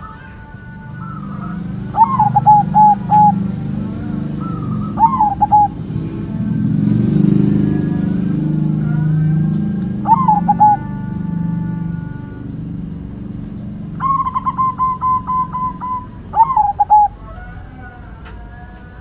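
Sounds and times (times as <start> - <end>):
dove cooing: 0.0 - 19.0
low engine rumble: 0.0 - 19.0.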